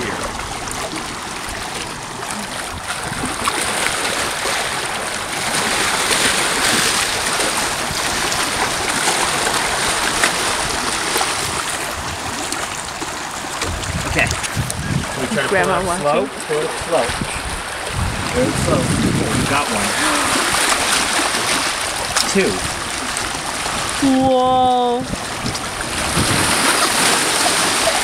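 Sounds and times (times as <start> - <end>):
small waves lapping on boulders: 0.0 - 28.0.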